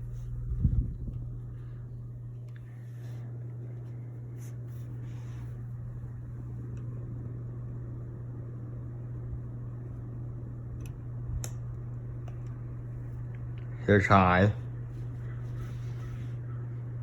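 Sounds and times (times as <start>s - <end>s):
ceiling fan motor hum: 0.0s - 17.0s.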